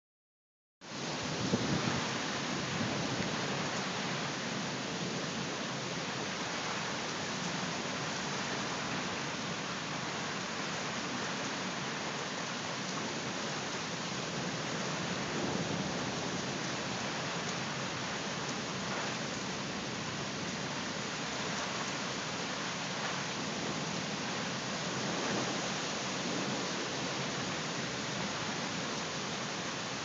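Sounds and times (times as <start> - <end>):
heavy rain pouring: 0.8 - 30.0.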